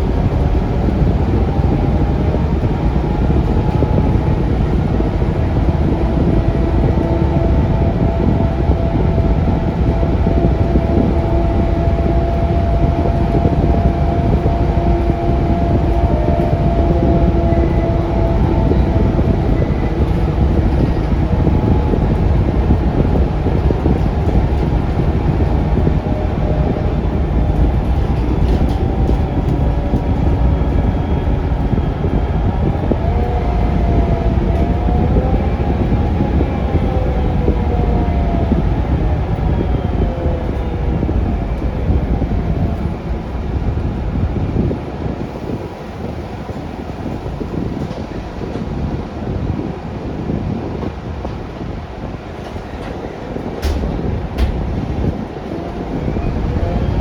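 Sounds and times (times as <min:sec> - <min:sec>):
bus diesel rumble: 0:00.0 - 0:57.0.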